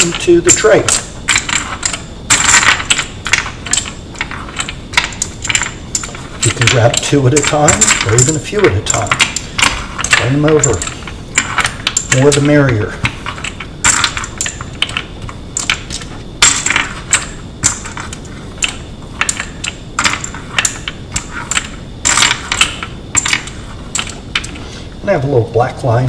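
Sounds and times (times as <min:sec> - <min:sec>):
brass cartridges clinking on wood: 0:00.0 - 0:24.6.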